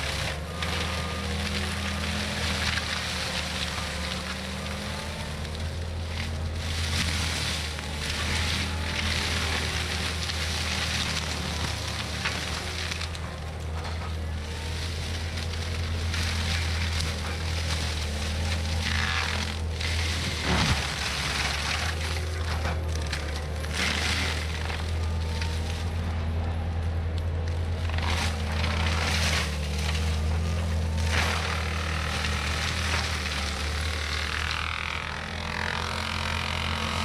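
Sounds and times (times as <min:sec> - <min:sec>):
diesel engine running under load: 0:00.0 - 0:37.0
mulcher grinding brush: 0:00.0 - 0:37.0.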